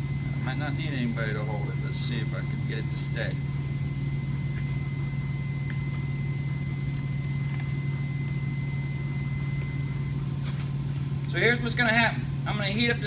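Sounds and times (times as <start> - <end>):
faint high whine: 0.0 - 13.0
low machine hum: 0.0 - 13.0.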